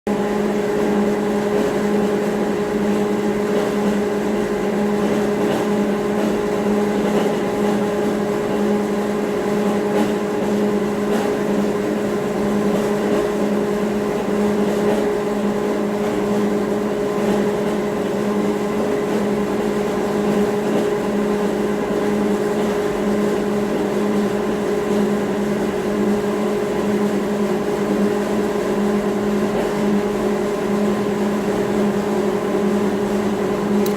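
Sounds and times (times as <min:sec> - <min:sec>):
machinery humming: 0:00.1 - 0:33.9.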